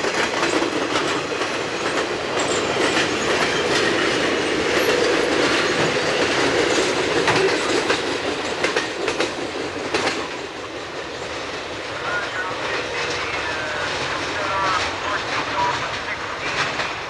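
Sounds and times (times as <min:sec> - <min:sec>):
freight train rumble: 0:00.0 - 0:17.0
train wheels clacking over rail joints: 0:00.0 - 0:17.0.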